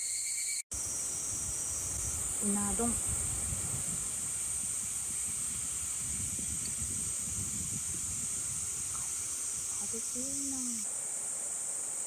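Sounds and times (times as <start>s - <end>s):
cicadas droning: 0.0s - 12.0s
wind rumbling on microphone: 0.8s - 10.8s.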